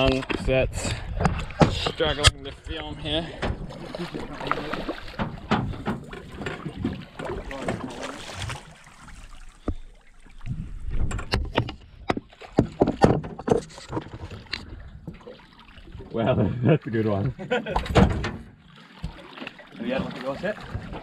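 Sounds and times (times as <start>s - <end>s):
knocks and bumps on a boat: 0.0s - 8.7s, 10.8s - 15.3s, 16.2s - 21.0s.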